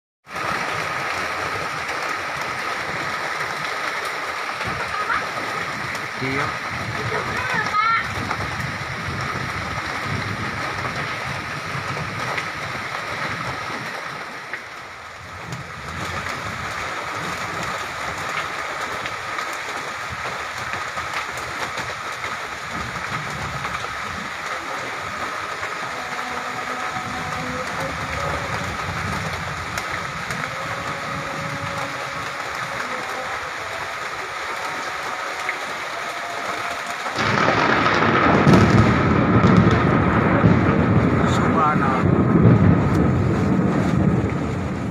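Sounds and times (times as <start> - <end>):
hail impacts: 0.2 - 44.9
heavy rain downpour: 0.2 - 44.9.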